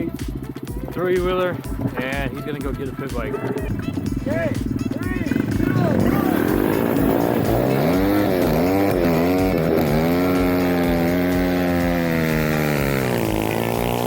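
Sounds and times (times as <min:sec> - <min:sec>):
small petrol engine revving: 0:00.0 - 0:14.0.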